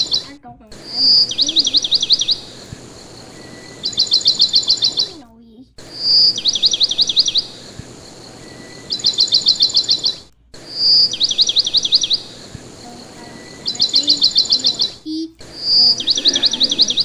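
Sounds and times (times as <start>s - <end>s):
parakeet chirping: 0.0s - 17.0s
parakeet whistle: 0.0s - 17.0s.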